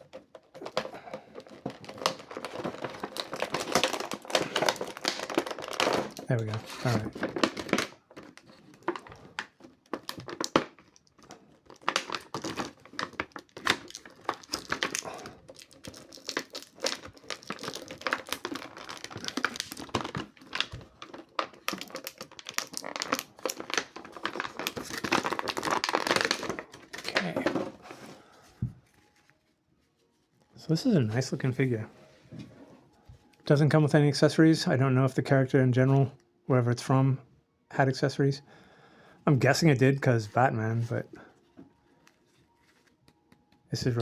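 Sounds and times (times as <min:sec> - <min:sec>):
plastic packaging crinkling: 0:00.0 - 0:31.8, 0:39.4 - 0:44.0.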